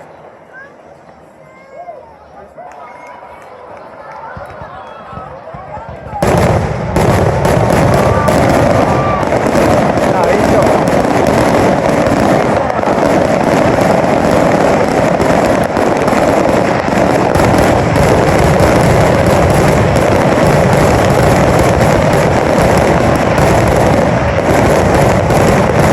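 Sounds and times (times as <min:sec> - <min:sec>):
fireworks bangs and crackles: 0:02.3 - 0:25.9.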